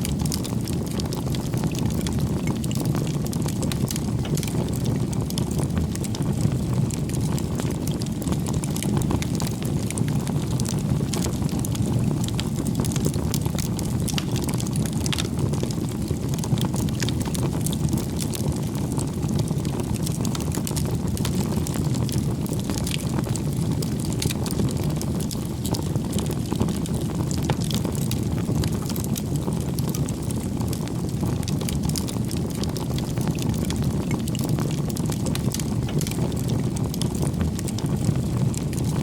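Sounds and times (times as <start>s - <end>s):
fire low rumble: 0.0s - 39.0s
logs crackling and popping: 0.0s - 39.0s.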